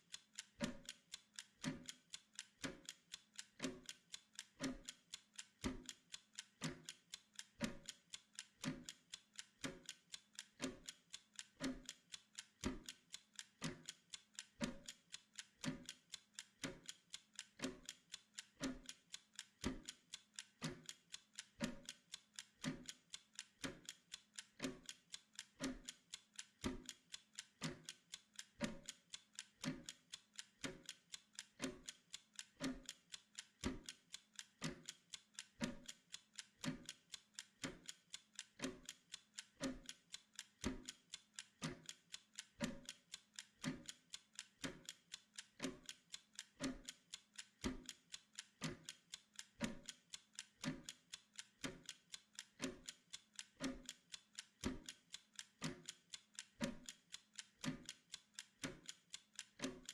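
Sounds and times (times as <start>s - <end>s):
timer ticking: 0.0s - 59.9s.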